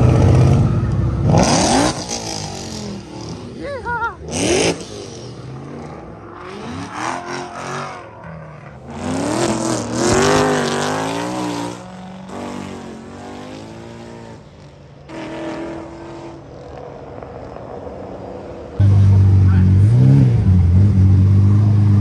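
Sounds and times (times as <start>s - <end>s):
sports car engines revving: 0.0s - 22.0s.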